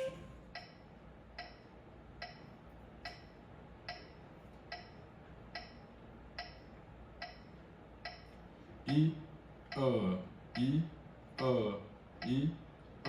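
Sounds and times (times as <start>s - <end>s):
metronome ticking: 0.0s - 11.6s, 12.2s - 12.6s.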